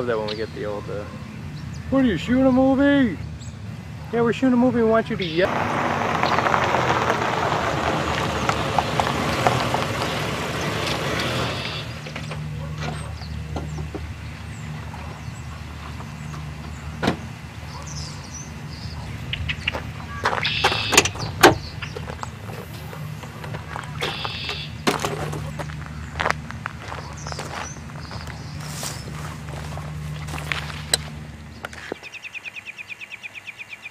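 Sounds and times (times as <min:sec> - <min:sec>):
car engine idling: 0:00.0 - 0:32.0
car driving up: 0:00.0 - 0:32.1.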